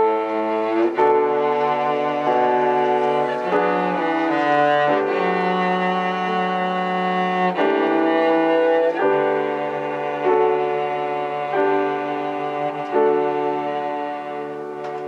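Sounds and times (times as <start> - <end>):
slow instrumental music: 0.0 - 15.0.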